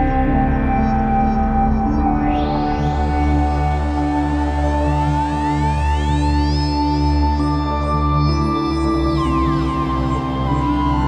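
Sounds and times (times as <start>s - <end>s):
ambient electronic music: 0.0s - 11.0s.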